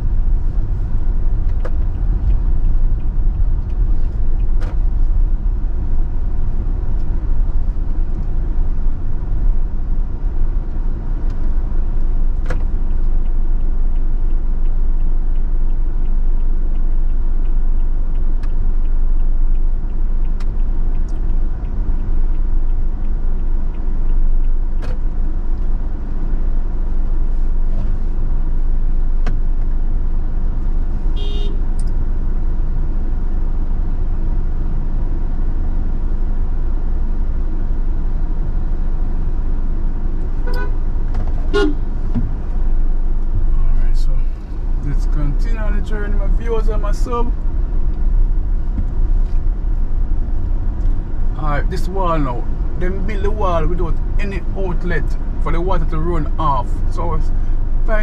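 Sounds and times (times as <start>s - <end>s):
car rumbling on dirt road: 0.0s - 58.0s.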